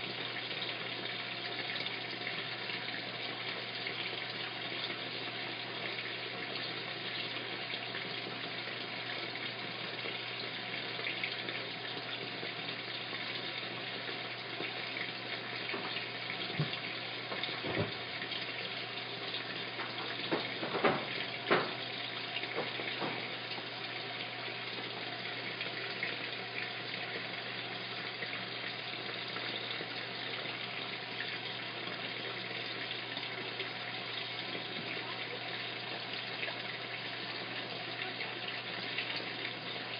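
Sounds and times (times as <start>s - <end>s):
water rushing into washing machine: 0.0s - 39.9s.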